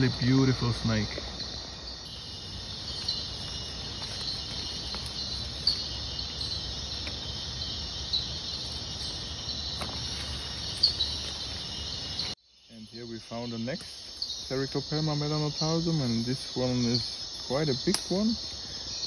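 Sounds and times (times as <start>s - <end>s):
crickets trilling: 0.0s - 19.0s
loud insect chirps: 0.0s - 19.0s.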